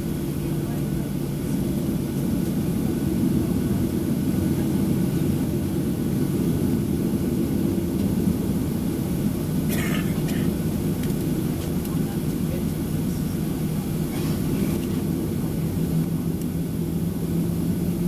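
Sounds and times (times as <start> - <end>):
jet engines droning in cabin: 0.0 - 18.0.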